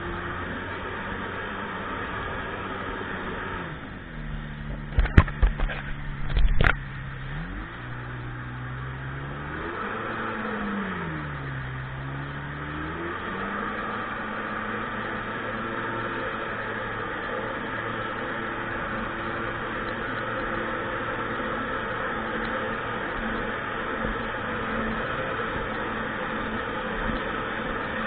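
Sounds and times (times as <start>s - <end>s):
personal watercraft engine: 0.0s - 28.0s
wind: 0.0s - 28.0s.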